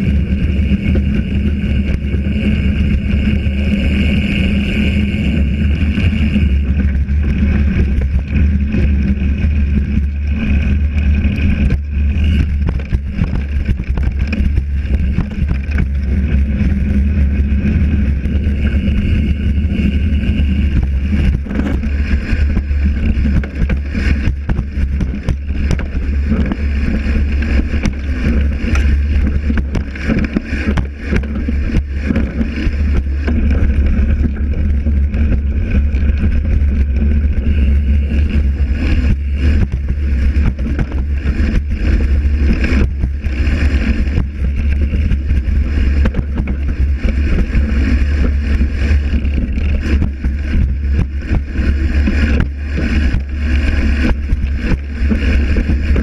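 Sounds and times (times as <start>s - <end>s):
tyres rumbling on dirt: 0.0s - 56.0s
wind on microphone: 0.0s - 56.0s.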